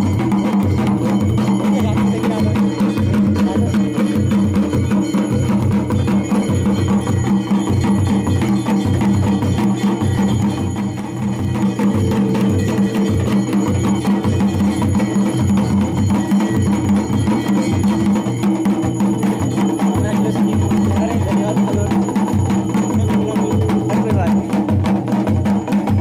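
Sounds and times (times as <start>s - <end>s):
steady held tone: 0.0s - 24.6s
folk drums beating: 0.0s - 26.0s.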